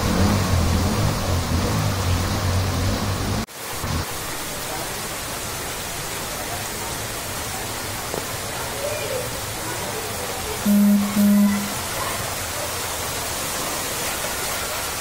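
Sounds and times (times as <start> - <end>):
heavy rain on a wet street: 0.0 - 15.0.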